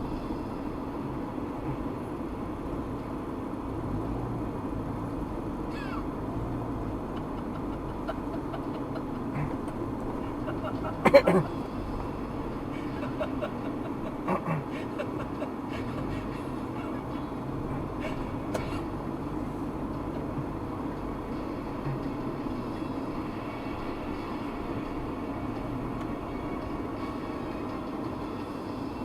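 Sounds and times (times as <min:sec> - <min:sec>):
vehicle road and engine rumble: 0:00.0 - 0:29.0.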